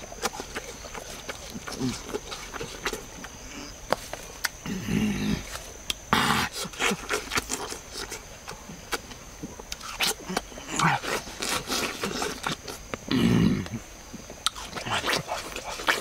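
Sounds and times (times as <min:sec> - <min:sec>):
person eating watermelon: 0:00.0 - 0:16.0.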